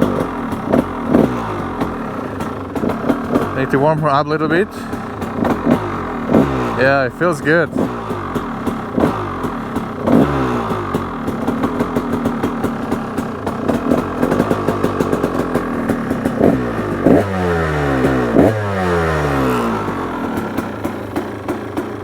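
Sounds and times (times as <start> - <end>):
two-stroke dirt bike engine revving: 0.0 - 22.0.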